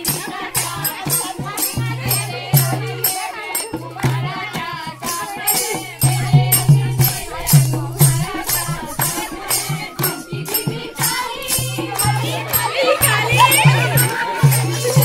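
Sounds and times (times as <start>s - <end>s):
rhythmic hand-claps: 0.0s - 15.0s
steady drum beat: 0.0s - 15.0s
women singing a folk song: 0.0s - 15.0s.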